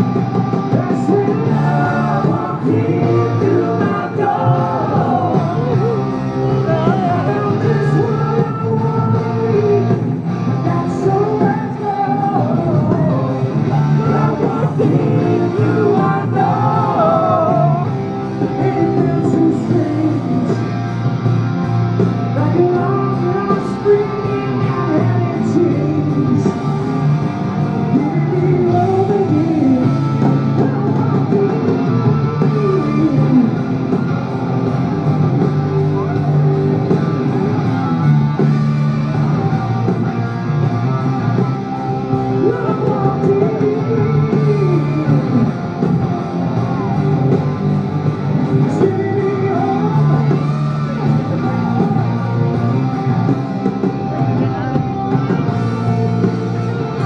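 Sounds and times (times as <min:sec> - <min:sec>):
live rock band with singing: 0:00.0 - 0:57.0.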